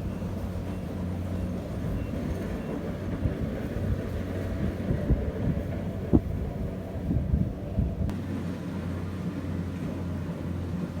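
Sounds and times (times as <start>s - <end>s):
harvester engine humming: 0.0s - 11.0s.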